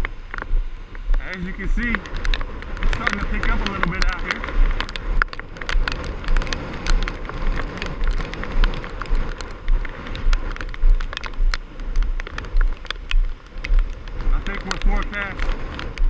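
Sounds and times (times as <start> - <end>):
rain rushing hiss: 0.0 - 16.0
raindrops ticking on microphone: 0.0 - 16.0
wind buffeting microphone: 0.0 - 16.0.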